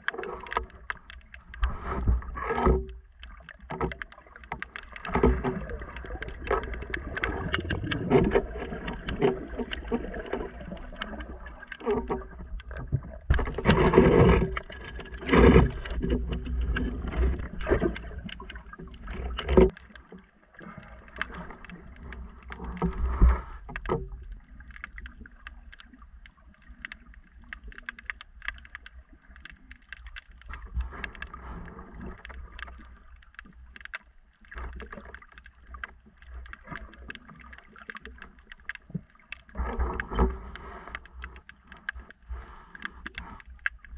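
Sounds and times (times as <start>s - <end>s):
underwater rushing and gurgling: 0.0s - 43.9s.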